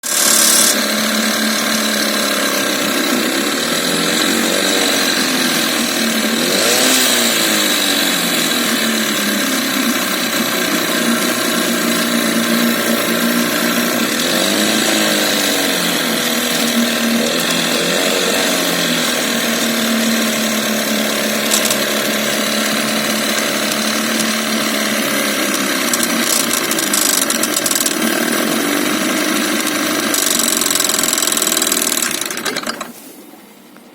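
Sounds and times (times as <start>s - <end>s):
outboard motor knocking: 0.0s - 32.9s.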